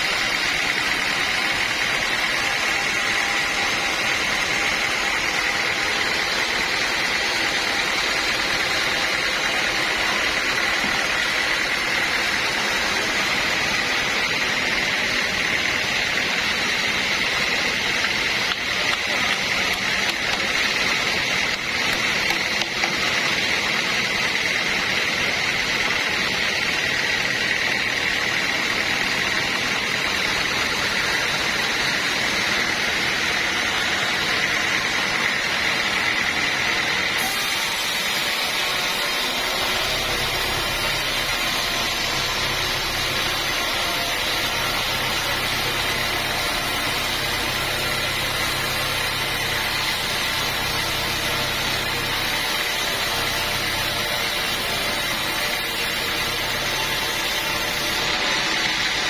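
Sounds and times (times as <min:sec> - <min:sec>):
saw cutting log high whine: 0:00.0 - 0:59.0
sawmill machinery running: 0:00.0 - 0:59.0.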